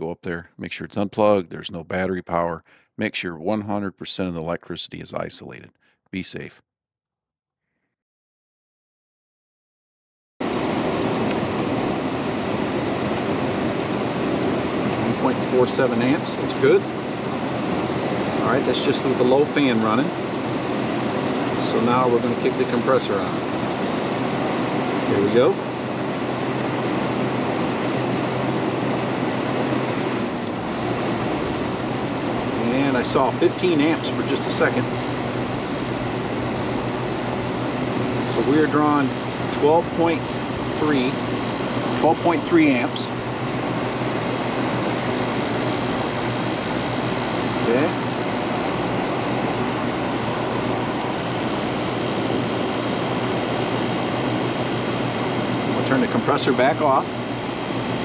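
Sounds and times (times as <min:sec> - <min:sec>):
compressor low hum: 0:00.0 - 0:06.6, 0:10.4 - 0:58.0
air conditioner fan rush: 0:10.4 - 0:58.0.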